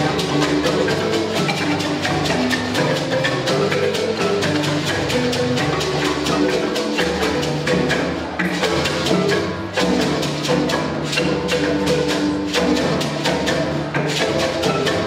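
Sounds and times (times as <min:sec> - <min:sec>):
drum accompaniment: 0:00.0 - 0:15.0
marimba ensemble playing: 0:00.0 - 0:15.0.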